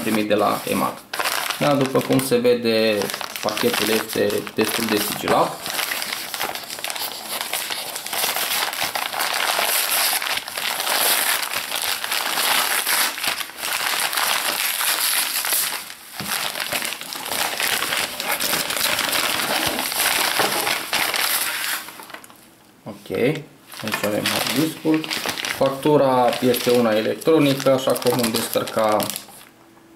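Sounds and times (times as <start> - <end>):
paper mailer tearing and crinkling: 0.0 - 22.4, 23.7 - 29.5.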